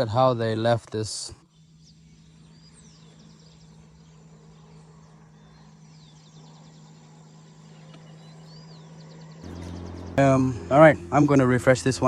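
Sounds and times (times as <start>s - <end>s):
low outdoor hum: 1.3s - 12.0s.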